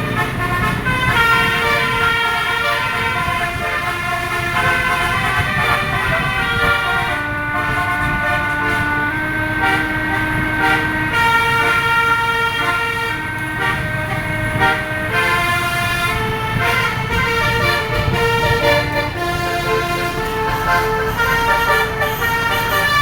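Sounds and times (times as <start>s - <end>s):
bus engine running: 0.0s - 23.0s
multi-tone air horn tune: 0.0s - 23.0s.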